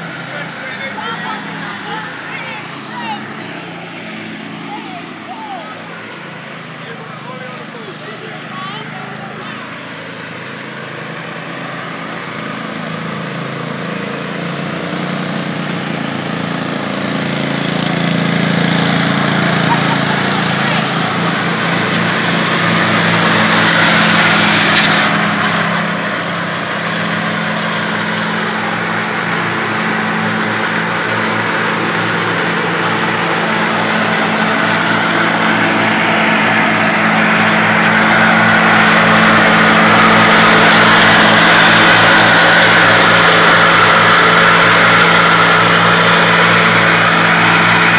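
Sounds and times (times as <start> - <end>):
riding lawnmower engines running: 0.0 - 47.9.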